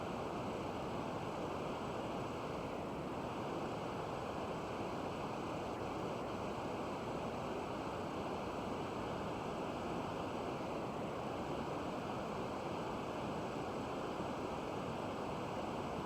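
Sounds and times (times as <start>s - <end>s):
television static hiss: 0.0s - 16.0s.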